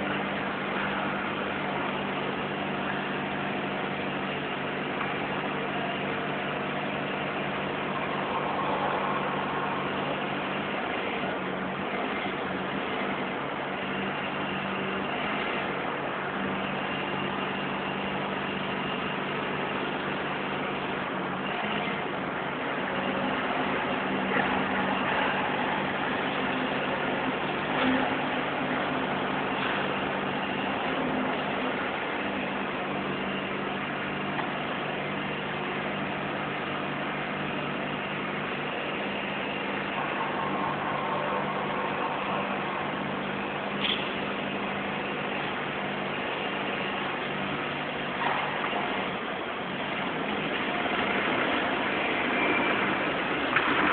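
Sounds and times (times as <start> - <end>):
faint high whine: 0.0 - 53.9
forklift humming: 0.0 - 53.9.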